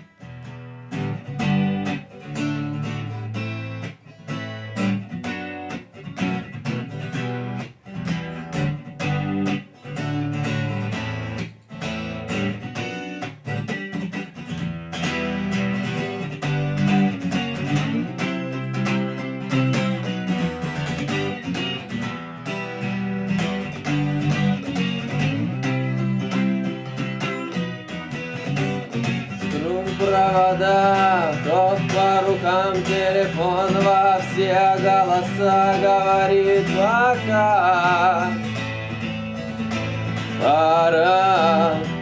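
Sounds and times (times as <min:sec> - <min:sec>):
guitar strumming chords: 0:00.0 - 0:42.0.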